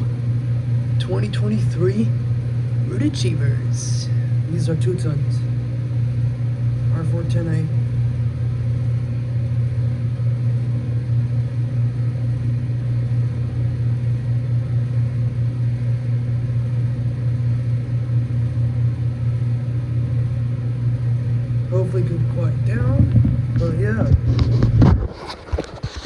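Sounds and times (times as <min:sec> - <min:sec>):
air conditioner condensers humming: 0:00.0 - 0:26.0.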